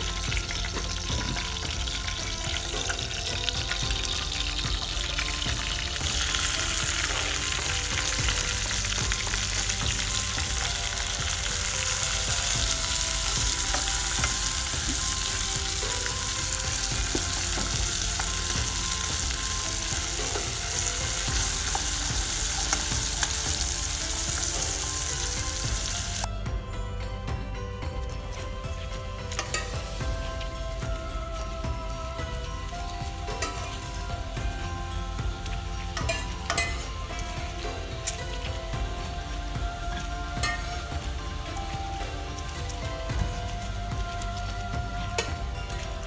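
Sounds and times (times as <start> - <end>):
food sizzling in hot oil: 0.0 - 26.3, 29.3 - 44.5
faint background music: 0.0 - 46.0.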